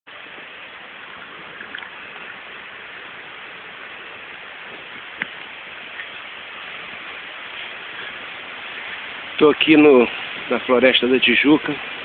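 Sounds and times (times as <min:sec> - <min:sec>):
wind on microphone: 0:00.1 - 0:12.0.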